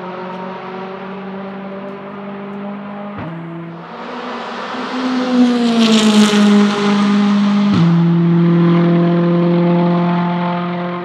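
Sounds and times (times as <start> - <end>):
racing car engine accelerating past: 0.0 - 11.0.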